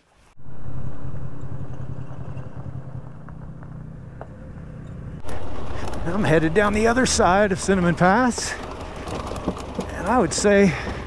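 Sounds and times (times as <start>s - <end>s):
vehicle engine hum: 0.3s - 11.0s.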